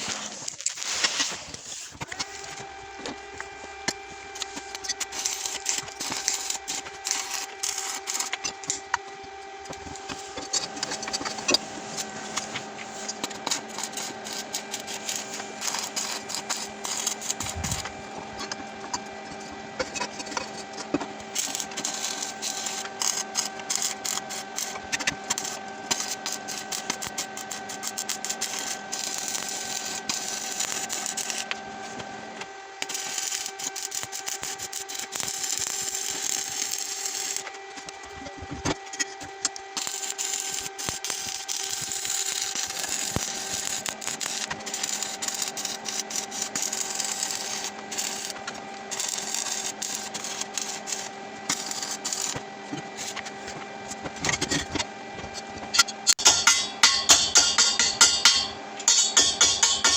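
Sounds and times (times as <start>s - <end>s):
power tool whine: 0.0s - 59.9s.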